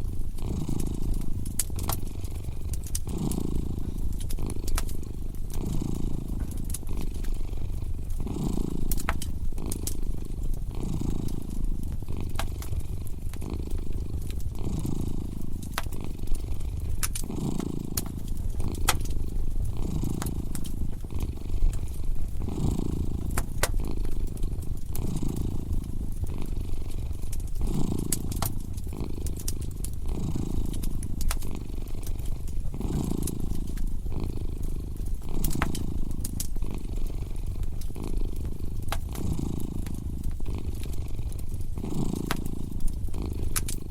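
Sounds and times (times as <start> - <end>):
cat purring: 0.0 - 43.9
wood fire crackling: 0.0 - 43.9.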